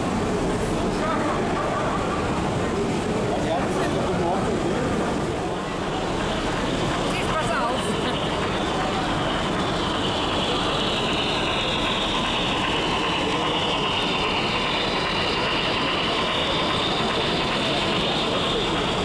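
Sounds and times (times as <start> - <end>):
model train running and rolling: 0.0 - 19.0.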